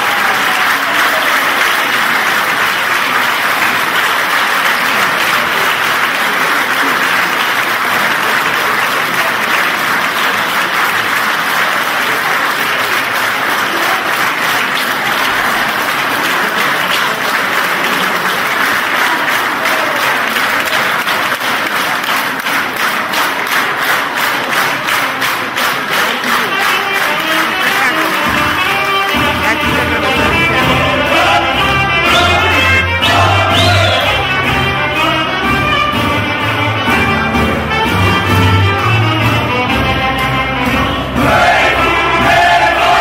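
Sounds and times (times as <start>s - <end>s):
audience applauding: 0.0s - 38.8s, 41.1s - 43.0s.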